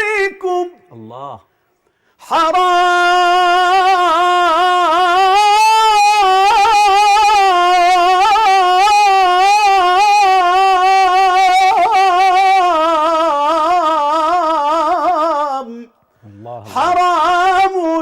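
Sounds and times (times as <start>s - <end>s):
man singing unaccompanied: 0.0s - 1.4s, 2.2s - 18.0s.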